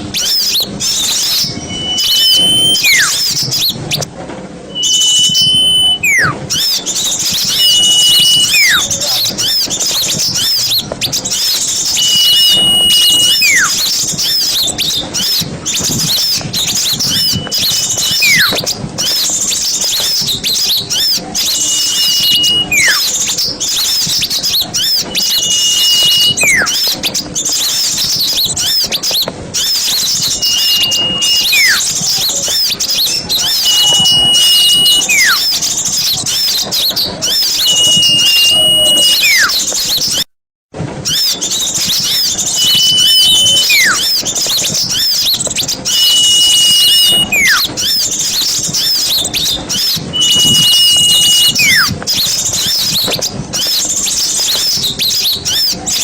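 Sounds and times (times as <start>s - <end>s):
songbirds chirping and trilling: 0.0s - 40.3s, 41.1s - 56.0s
whistled bird note with falling slur: 0.2s - 4.0s, 4.7s - 27.0s, 27.6s - 40.3s, 41.1s - 55.8s.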